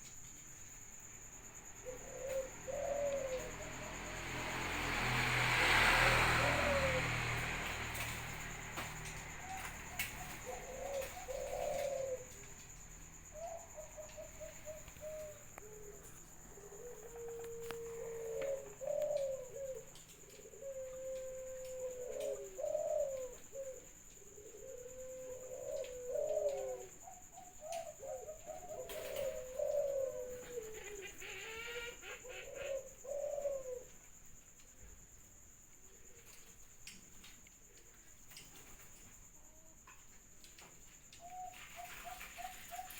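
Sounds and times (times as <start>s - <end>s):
dove cooing: 1.2s - 34.2s, 40.6s - 42.9s.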